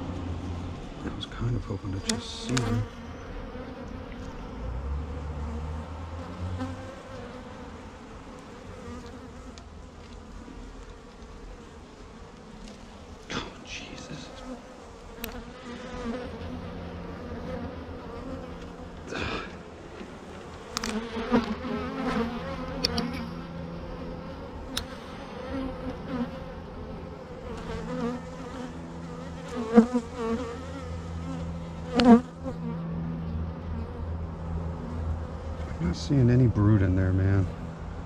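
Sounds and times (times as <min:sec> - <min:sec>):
honeybees buzzing: 0:00.0 - 0:38.0.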